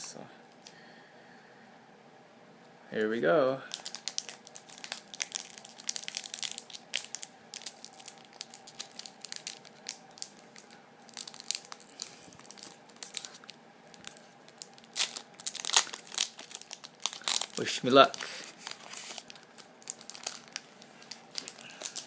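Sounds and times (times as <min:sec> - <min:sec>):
plastic packaging crinkling: 0:03.7 - 0:22.0.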